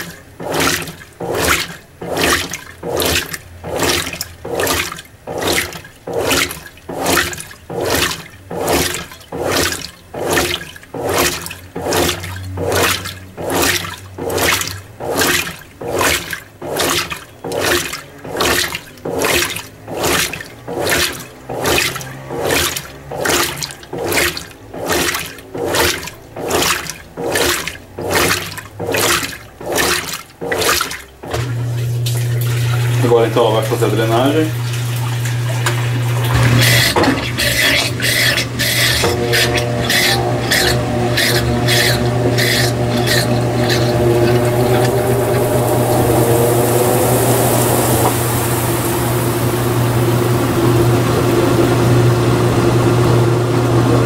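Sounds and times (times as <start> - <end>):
washing machine water sloshing: 0.0 - 54.0.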